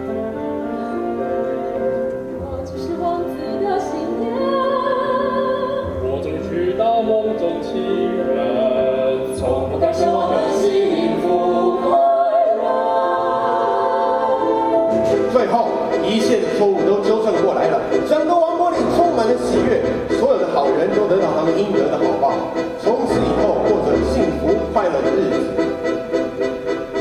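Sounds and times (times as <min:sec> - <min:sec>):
instrumental accompaniment: 0:00.0 - 0:27.0
musical theatre singing: 0:00.0 - 0:27.0.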